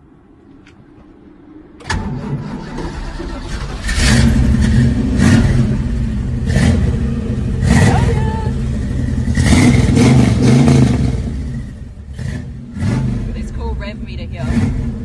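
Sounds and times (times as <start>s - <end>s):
car engine revving: 1.8s - 15.0s.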